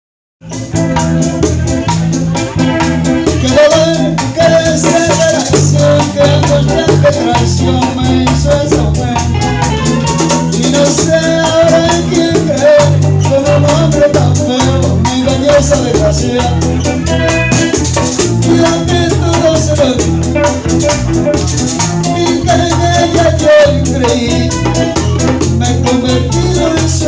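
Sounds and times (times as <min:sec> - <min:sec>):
bass line: 0:00.4 - 0:27.0
drums: 0:00.4 - 0:27.0
guira scraping rhythm: 0:00.4 - 0:27.0
guitar melody: 0:00.4 - 0:27.0.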